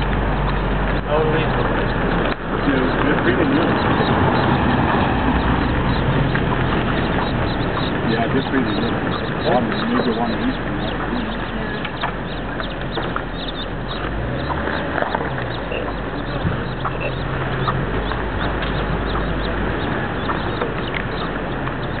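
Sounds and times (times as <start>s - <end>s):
hen calling: 0.0s - 22.0s
high chick peeps: 0.0s - 22.0s.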